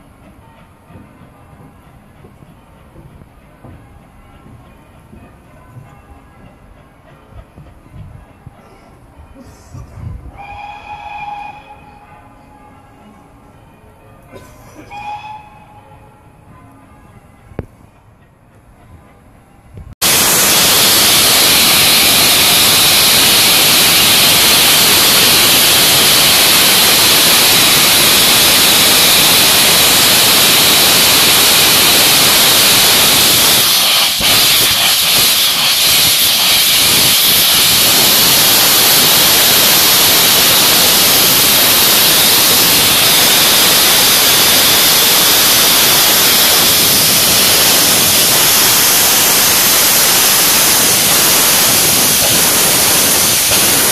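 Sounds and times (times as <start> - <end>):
steam locomotive hissing steam: 0.0 - 13.5, 14.2 - 16.1, 20.0 - 53.9.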